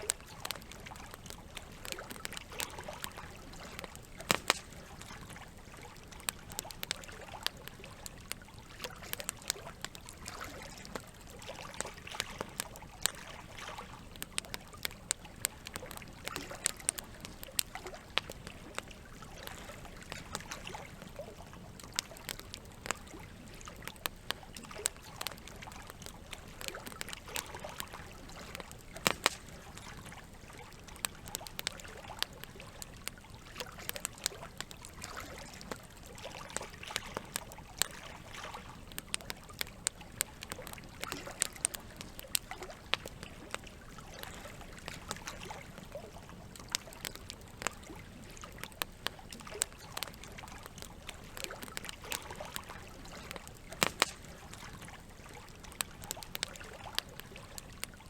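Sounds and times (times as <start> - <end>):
running water trickling: 0.0 - 58.0
wood fire crackling and popping: 0.0 - 58.0.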